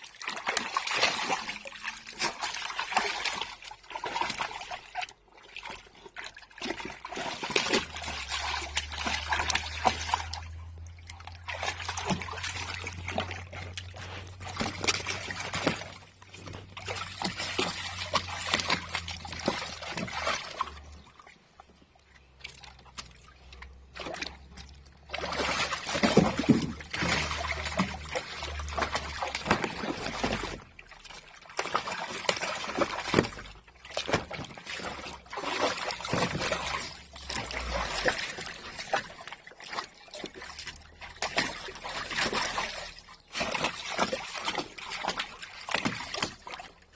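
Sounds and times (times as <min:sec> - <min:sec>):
dog splashing water: 0:00.0 - 0:46.9.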